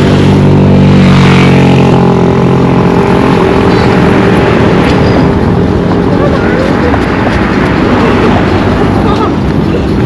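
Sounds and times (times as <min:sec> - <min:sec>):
vehicle engine passing: 0:00.0 - 0:10.0.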